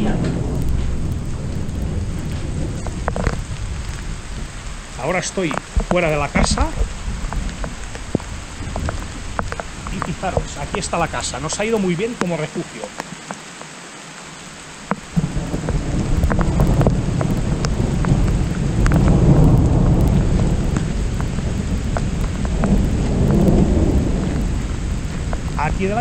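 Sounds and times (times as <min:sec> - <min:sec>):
thunder rumbling: 0:00.0 - 0:13.0, 0:14.8 - 0:26.0
heavy rain: 0:00.0 - 0:26.0
raindrops tapping on camera: 0:00.0 - 0:26.0.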